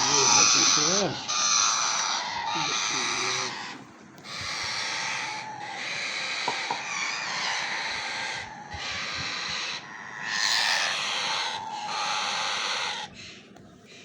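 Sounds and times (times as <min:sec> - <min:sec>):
parakeet raspy begging calls: 0:00.0 - 0:14.0.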